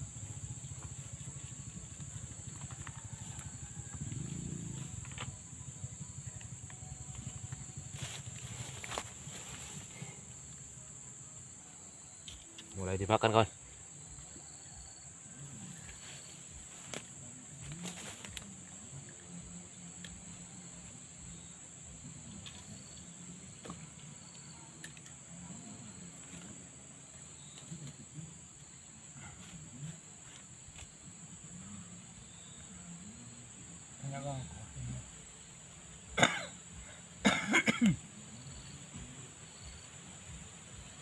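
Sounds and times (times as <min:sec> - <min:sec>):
high-pitched insect drone: 0:00.0 - 0:41.0.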